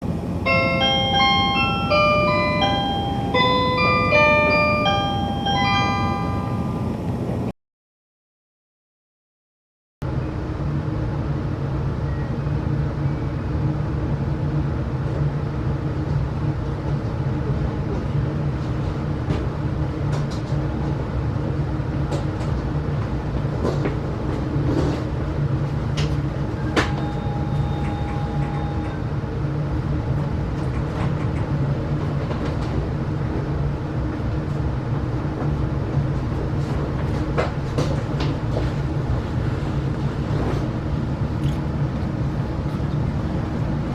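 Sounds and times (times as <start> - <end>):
train interior rumble and hum: 0.0 - 7.5, 10.0 - 43.9.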